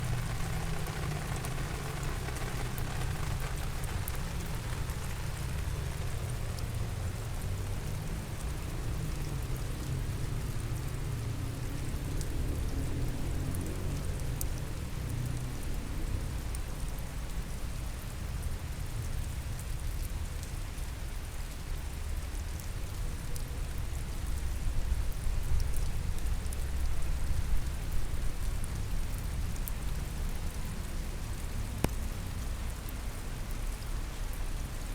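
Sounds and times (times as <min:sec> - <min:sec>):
raindrops ticking: 0:00.0 - 0:20.8, 0:21.4 - 0:34.7
rain falling: 0:00.0 - 0:34.9.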